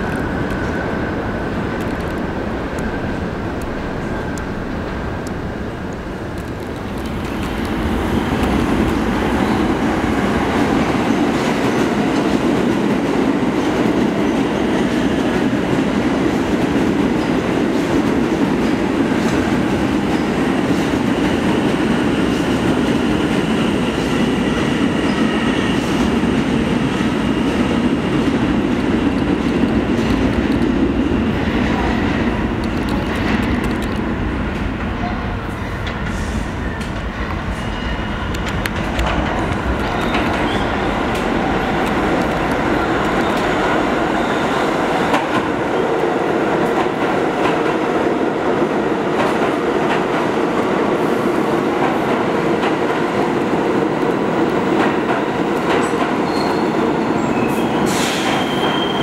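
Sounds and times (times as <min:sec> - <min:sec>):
subway train rumbling on rails: 0:00.0 - 0:59.0.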